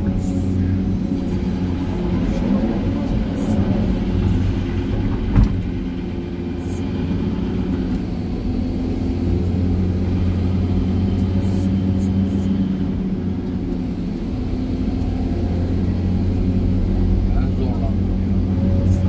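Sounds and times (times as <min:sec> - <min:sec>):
excavator engine and hydraulics running: 0:00.0 - 0:19.0.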